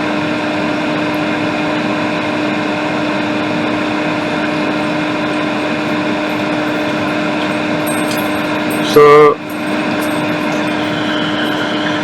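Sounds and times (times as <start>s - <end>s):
electric fan whirring: 0.0s - 12.0s.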